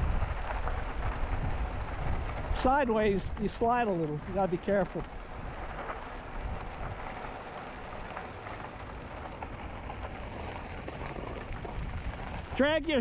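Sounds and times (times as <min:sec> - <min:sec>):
bike tyres rolling on loose trail: 0:00.0 - 0:13.0
grit ticking: 0:00.0 - 0:13.0.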